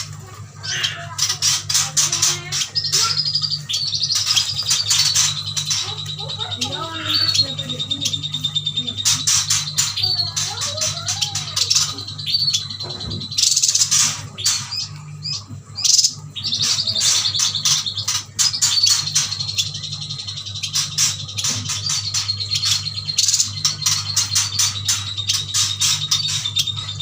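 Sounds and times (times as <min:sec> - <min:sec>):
birds chirping rapidly: 0:00.0 - 0:27.0
steady low hum: 0:00.0 - 0:27.0.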